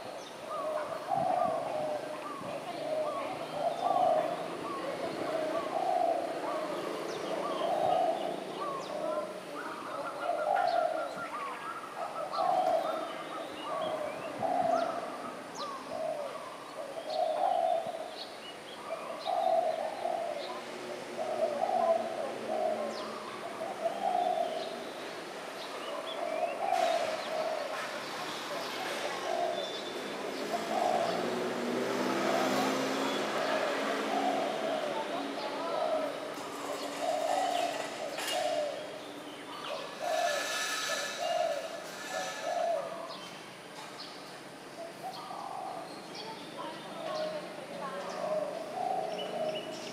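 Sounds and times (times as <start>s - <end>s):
dove cooing: 0.0s - 24.9s, 25.6s - 31.4s, 32.6s - 43.3s, 44.8s - 49.9s
small birds chirping: 0.0s - 49.9s.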